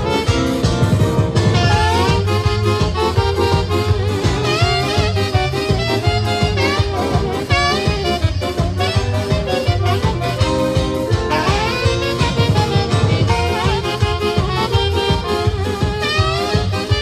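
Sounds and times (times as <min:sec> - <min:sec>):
band with steady bass beat: 0:00.0 - 0:17.0
saxophones playing fast melody: 0:00.0 - 0:17.0.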